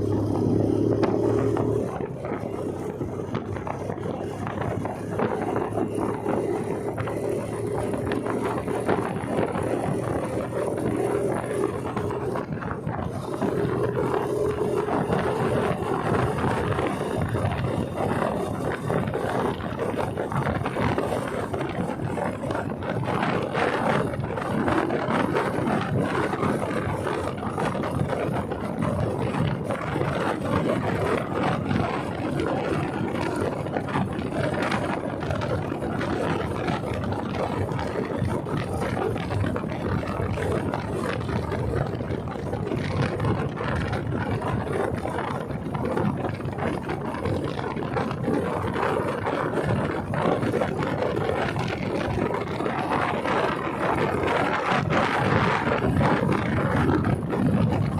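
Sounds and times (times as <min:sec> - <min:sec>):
motorcycle engine: 0:00.0 - 0:57.9
wind and road noise: 0:00.0 - 0:57.9.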